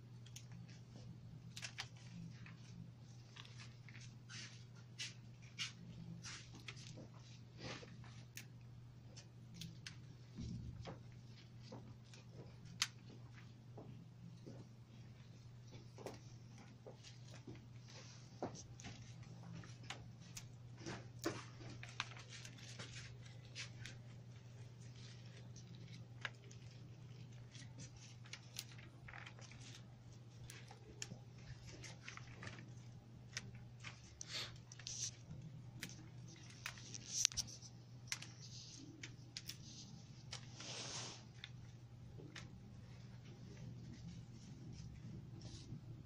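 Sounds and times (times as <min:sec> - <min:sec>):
steady low hum: 0:00.0 - 0:46.0
rose stems rustling and clicking: 0:00.2 - 0:45.8.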